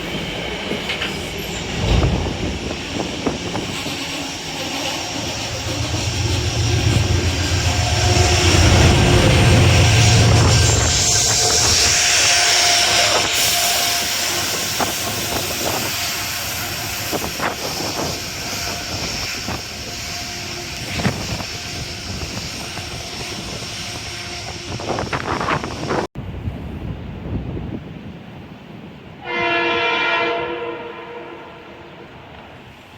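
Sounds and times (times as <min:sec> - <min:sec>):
train rushing rumble: 0:00.0 - 0:29.5.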